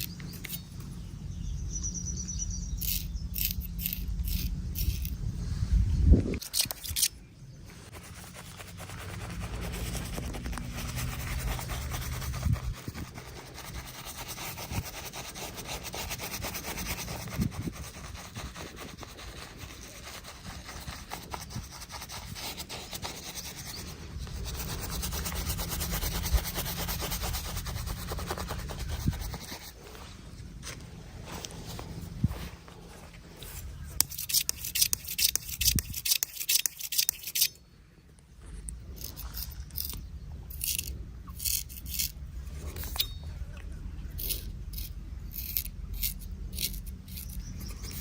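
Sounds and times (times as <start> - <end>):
razor scraping over stubble: 2.8 - 5.2, 7.8 - 30.0, 31.4 - 37.6, 39.0 - 43.0, 44.2 - 48.0.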